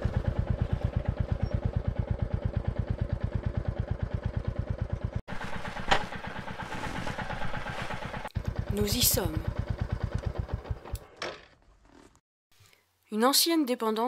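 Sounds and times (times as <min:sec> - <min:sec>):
motorcycle engine thumping: 0:00.0 - 0:11.6.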